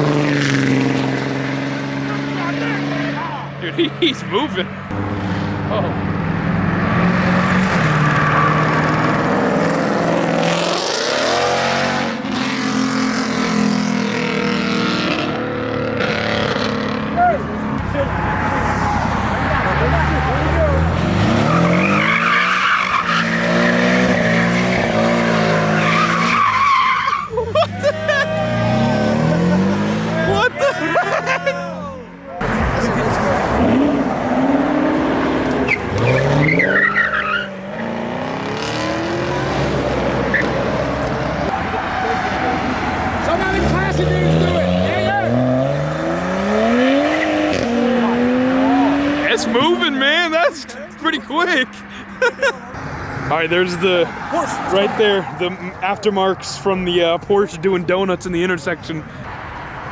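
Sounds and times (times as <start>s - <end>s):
car engine revving: 0.0s - 59.9s
tires squealing: 0.0s - 59.9s.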